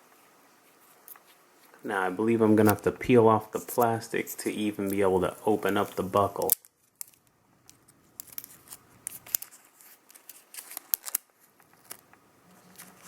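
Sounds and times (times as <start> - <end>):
plastic film peeling: 0.6 - 13.0.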